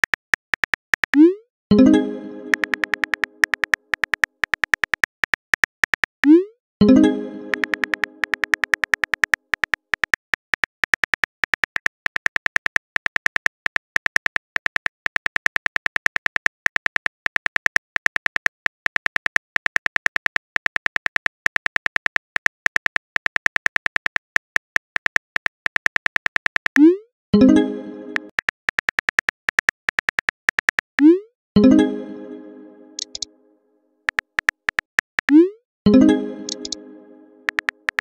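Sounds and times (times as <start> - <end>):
phone keyboard typing clicks: 0.0 - 1.3, 2.5 - 6.4, 7.5 - 26.9, 28.1 - 31.0, 33.0 - 33.3, 34.1 - 36.8, 37.5 - 38.0.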